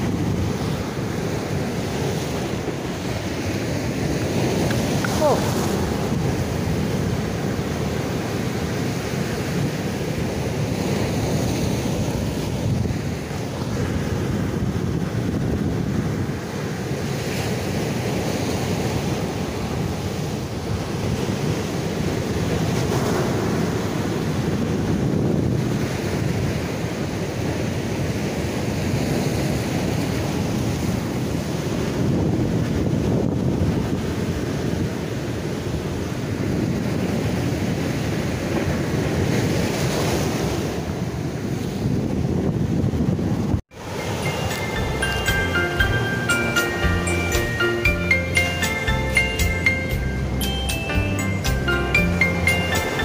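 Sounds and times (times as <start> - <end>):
wind buffeting microphone: 0.0 - 44.5
surf washing against rocks: 0.0 - 53.0.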